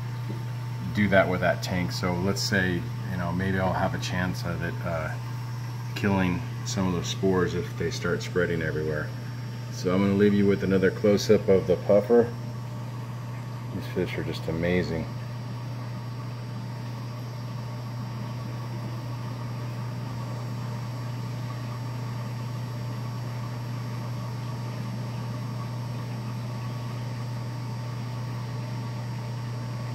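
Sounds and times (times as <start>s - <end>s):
aquarium equipment low hum: 0.0s - 29.9s.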